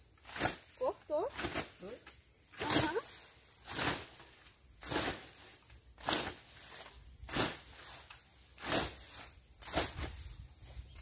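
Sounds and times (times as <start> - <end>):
hoe chopping and scraping soil: 0.2 - 0.8, 1.4 - 2.0, 2.6 - 10.5.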